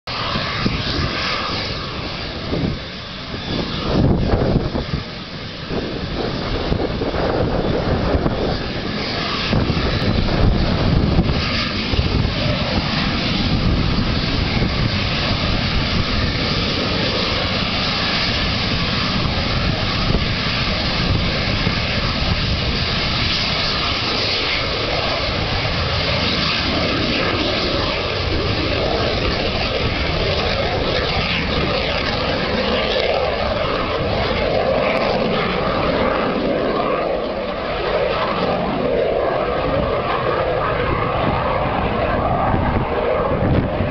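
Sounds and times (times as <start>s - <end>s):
jet engine roar with whine: 0.0s - 43.9s.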